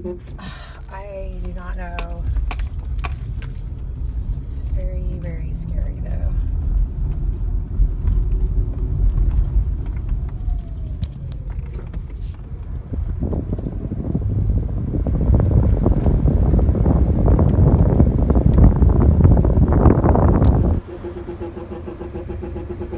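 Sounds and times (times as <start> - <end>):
car engine rumble: 0.0 - 22.9.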